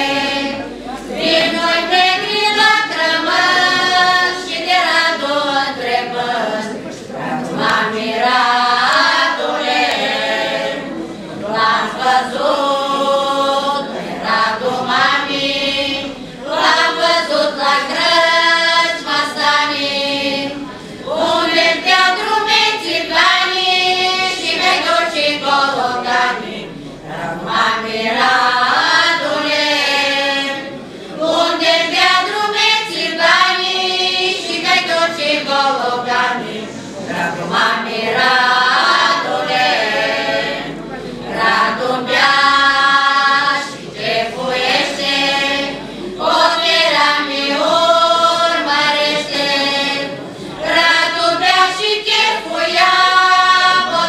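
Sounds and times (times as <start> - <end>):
women's choir singing unaccompanied: 0.0 - 54.0.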